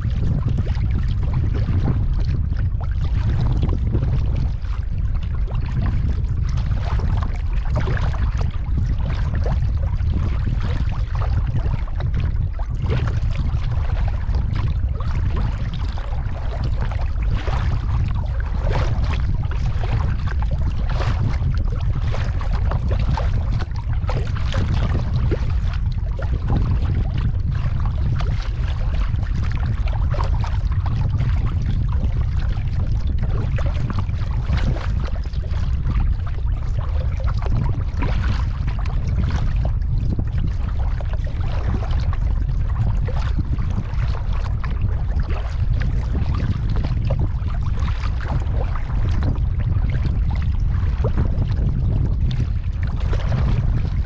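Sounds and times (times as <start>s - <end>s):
water slapping hull: 0.0s - 54.0s
wind rumble on microphone: 0.0s - 54.0s.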